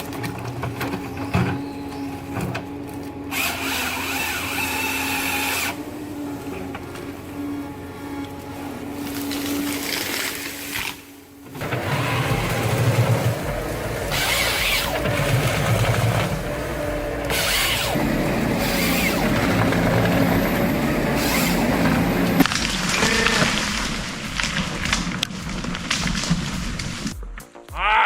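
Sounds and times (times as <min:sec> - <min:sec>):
heavy machine engine running: 0:00.0 - 0:27.1.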